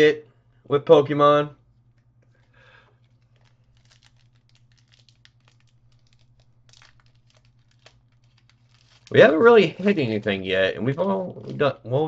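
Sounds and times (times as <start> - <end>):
low steady hum: 0.0 - 12.0
wrapper crinkling: 1.9 - 11.6.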